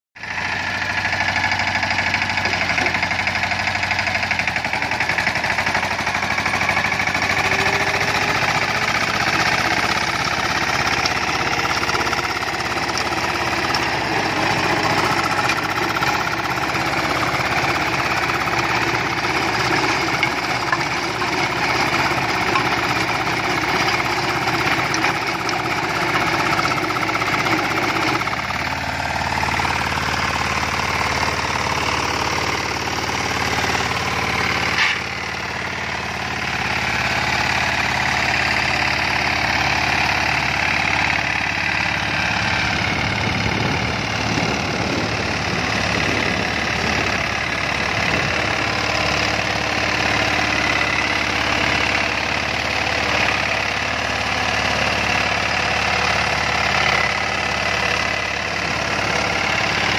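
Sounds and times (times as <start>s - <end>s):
rotavator tilling soil: 0.2s - 59.9s
tractor diesel engine running: 0.2s - 59.9s.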